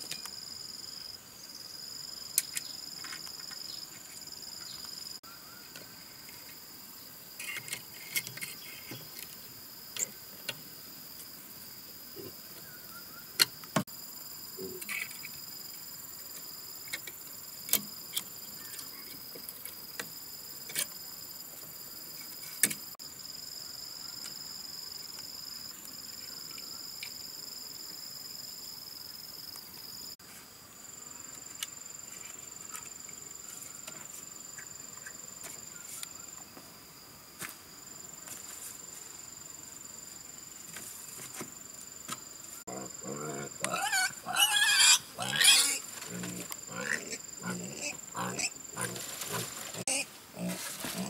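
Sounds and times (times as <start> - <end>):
insects buzzing: 0.0 - 51.0.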